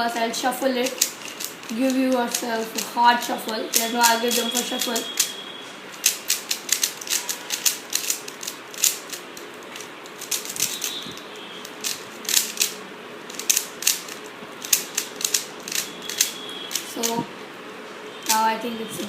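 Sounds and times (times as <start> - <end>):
puzzle cube layers clicking: 0.4 - 5.3, 6.0 - 17.2.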